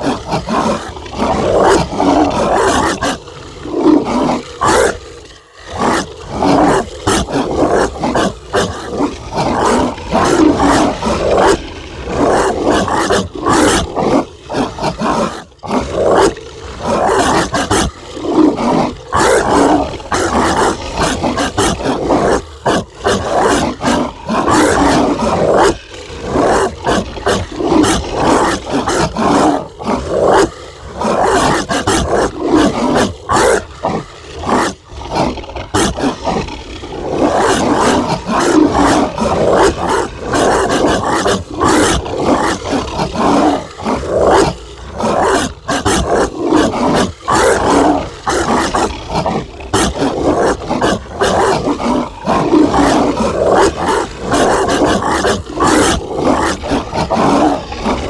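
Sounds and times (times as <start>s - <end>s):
monstrous dog barking and snarling: 0.0s - 58.0s.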